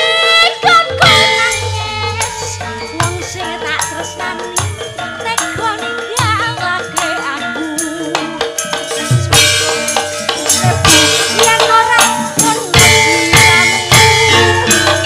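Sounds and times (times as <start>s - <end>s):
deep drum beats: 0.6s - 15.0s
gamelan gong-chimes playing: 0.7s - 15.0s.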